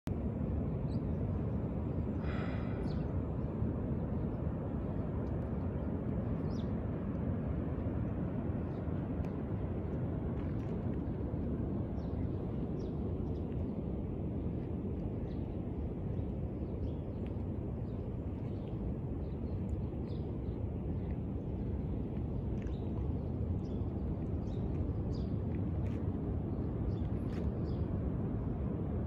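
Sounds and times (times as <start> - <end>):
low rumble of beach ambience: 0.1 - 29.0.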